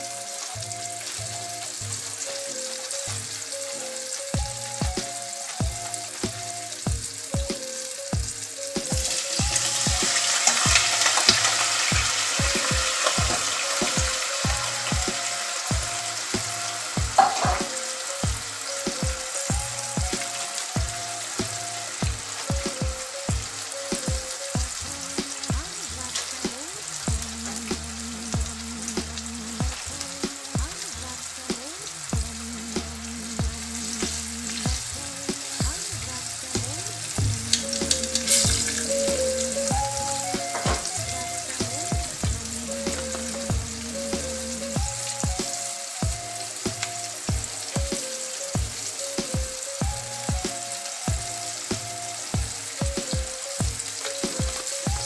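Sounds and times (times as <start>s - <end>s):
fish fillets frying in oil: 0.0s - 55.0s.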